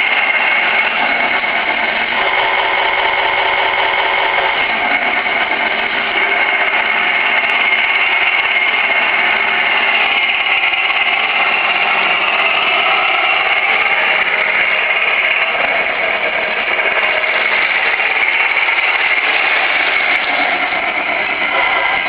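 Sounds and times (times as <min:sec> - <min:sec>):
simulated tank engine hum: 0:00.0 - 0:22.0.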